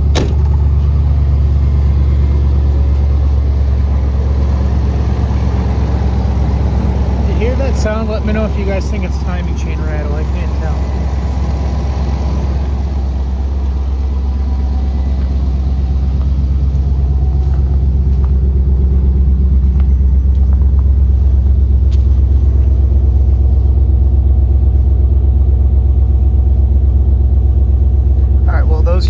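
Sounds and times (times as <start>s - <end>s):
car engine idling: 0.0s - 29.0s
sound under engine idle: 0.0s - 29.0s.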